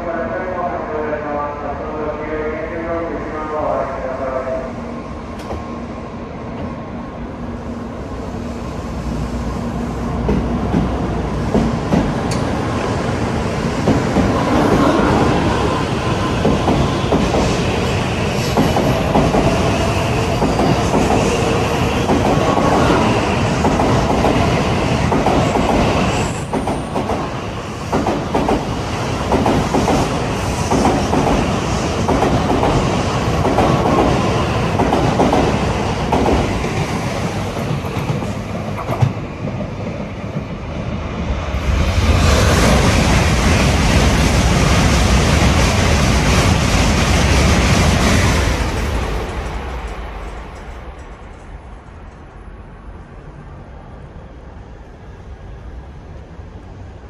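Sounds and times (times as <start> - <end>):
train wheels on rail: 4.9 - 53.6.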